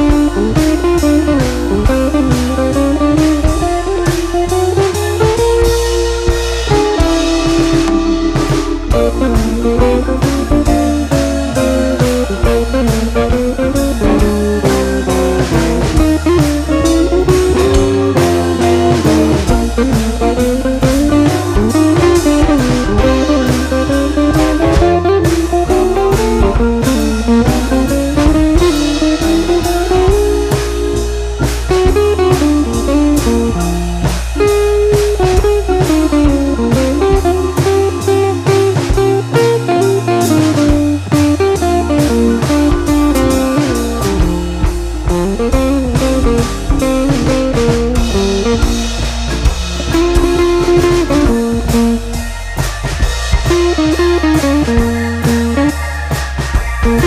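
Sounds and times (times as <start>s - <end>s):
blues guitar music: 0.0s - 57.0s
drum kit beat: 0.0s - 57.0s.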